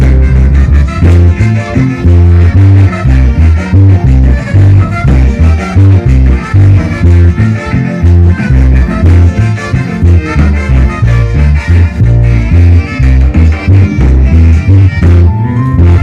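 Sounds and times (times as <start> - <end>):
strong bass line: 0.0 - 16.0.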